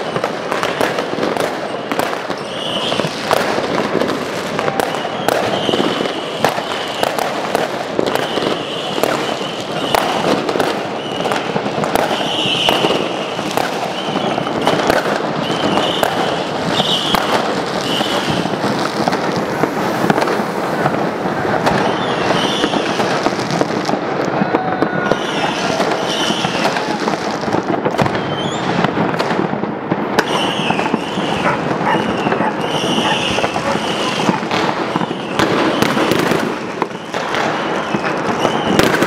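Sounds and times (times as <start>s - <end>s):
firecrackers crackling: 0.0s - 39.0s
fireworks banging: 0.0s - 39.0s.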